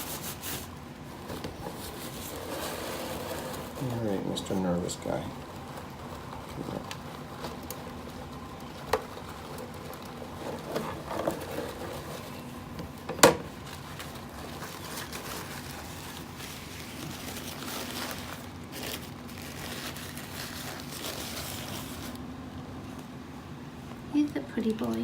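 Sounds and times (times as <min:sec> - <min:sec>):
handling and rustling: 0:00.0 - 0:22.2
steady low hum: 0:00.0 - 0:25.0.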